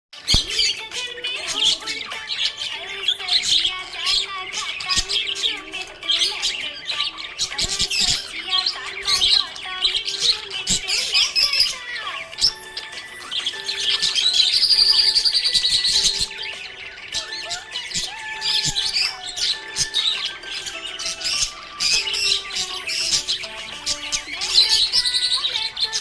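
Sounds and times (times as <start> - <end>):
budgerigar chirping and chattering: 0.2 - 26.0.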